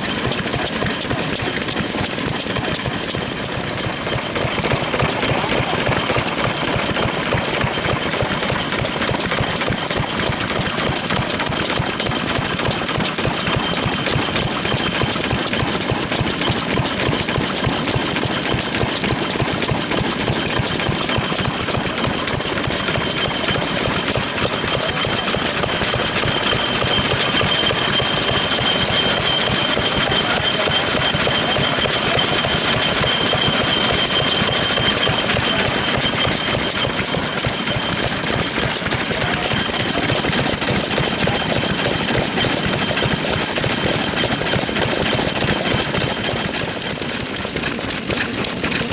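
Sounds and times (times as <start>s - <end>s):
stationary engines chugging: 0.0s - 48.9s.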